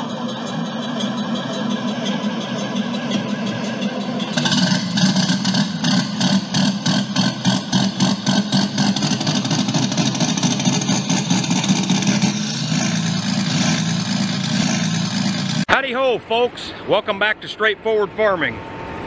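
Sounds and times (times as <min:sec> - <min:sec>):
fast even pulsing: 0:00.0 - 0:18.8
engine running: 0:00.0 - 0:19.0.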